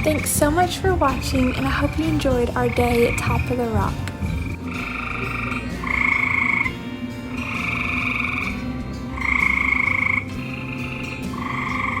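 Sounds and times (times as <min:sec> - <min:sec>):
frogs trilling: 0:00.0 - 0:12.0.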